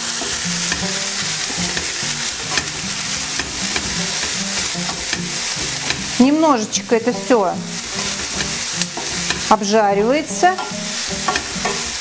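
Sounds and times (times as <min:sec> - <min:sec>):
spatula scraping and tapping pan: 0:00.0 - 0:12.0
vegetables sizzling in frying pan: 0:00.0 - 0:12.0.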